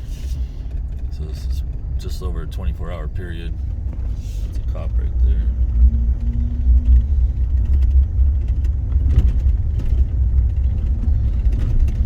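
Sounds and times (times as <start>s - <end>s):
car road rumble on snow: 0.0s - 12.0s.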